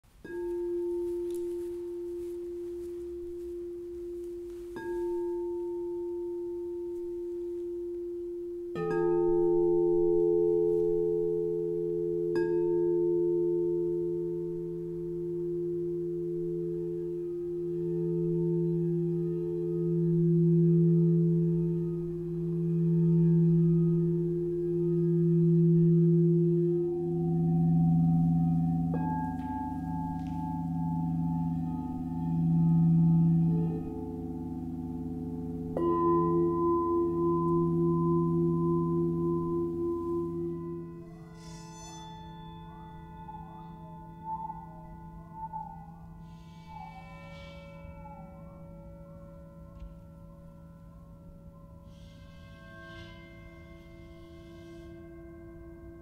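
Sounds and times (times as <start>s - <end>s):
metal singing bowls ringing: 0.2s - 56.0s.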